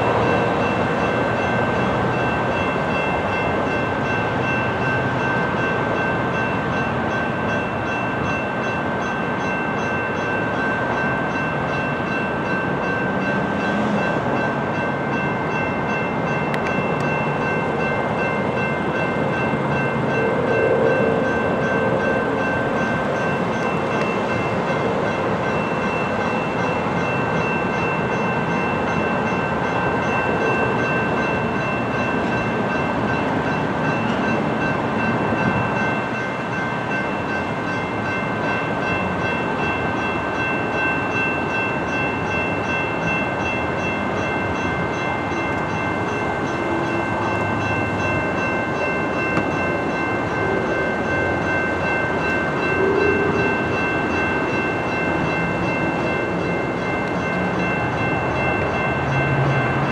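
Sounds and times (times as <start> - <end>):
rail and road noise rumble: 0.0 - 59.9
railroad crossing bells ringing: 0.0 - 59.9.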